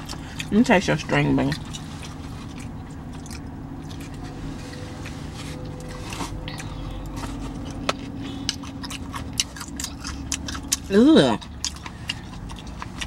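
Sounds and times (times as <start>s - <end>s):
low hum: 0.0s - 13.0s
person chewing: 0.0s - 13.0s.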